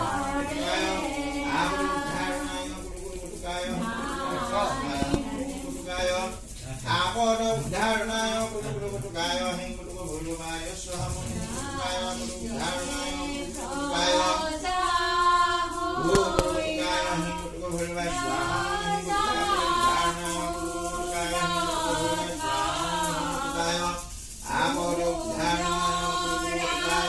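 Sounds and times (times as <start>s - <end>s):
person chanting mantras: 0.0s - 27.0s.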